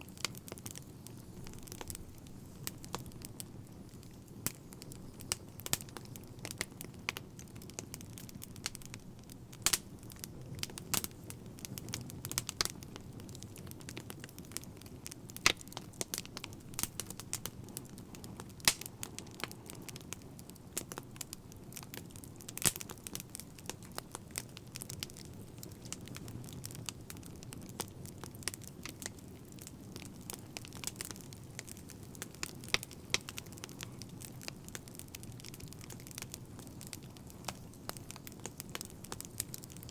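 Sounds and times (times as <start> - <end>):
fire popping and snapping: 0.0 - 39.9
low rumble of flames: 0.0 - 39.9.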